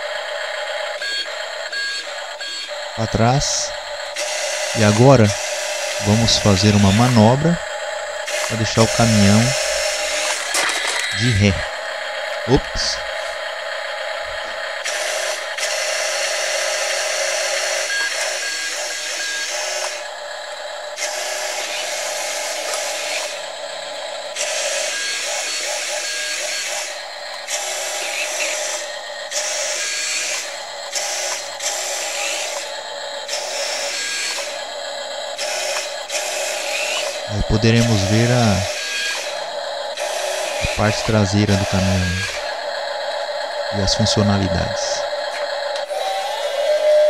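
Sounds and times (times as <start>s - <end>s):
tinny simulated truck engine: 0.0s - 47.0s
toy drive motor whirring: 0.0s - 47.0s.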